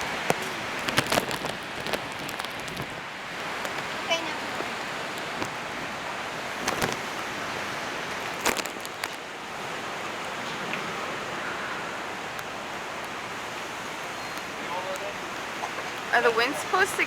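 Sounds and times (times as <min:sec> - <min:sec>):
rushing wind and water: 0:00.0 - 0:17.0.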